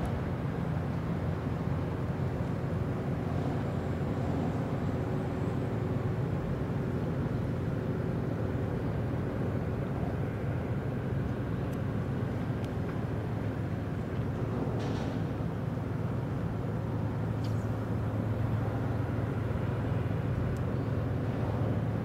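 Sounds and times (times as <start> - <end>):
ship engine low rumble: 0.0 - 22.0.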